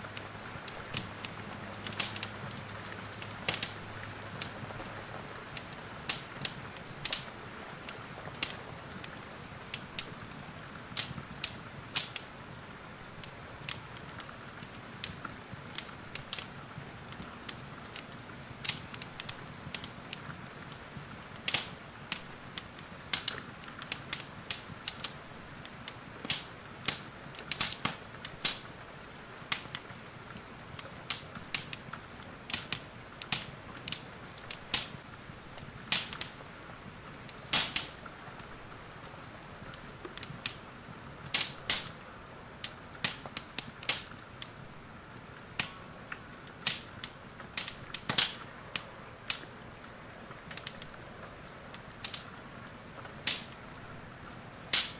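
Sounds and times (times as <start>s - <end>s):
rain hissing: 0.0s - 54.9s
wood fire crackling and popping: 0.0s - 54.9s.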